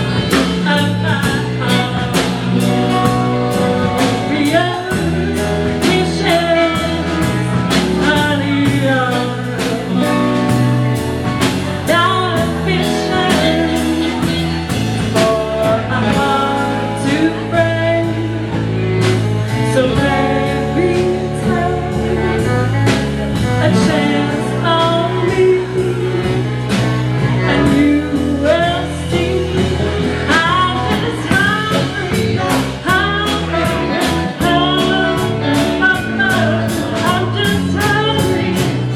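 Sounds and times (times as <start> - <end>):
live band playing blues-rock: 0.0 - 38.9.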